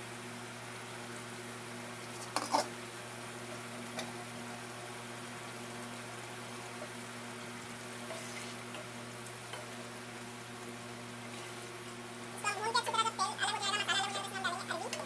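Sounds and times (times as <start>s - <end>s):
faint hum: 0.0s - 15.0s
curry bubbling and sizzling: 0.1s - 15.0s.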